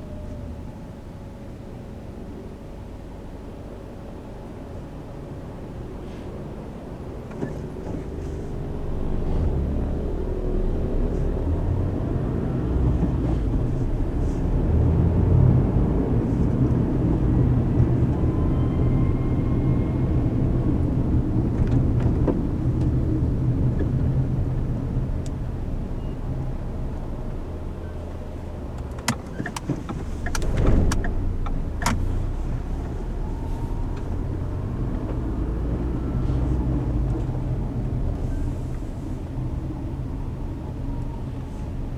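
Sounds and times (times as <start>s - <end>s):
car road noise rumble: 0.0s - 41.9s.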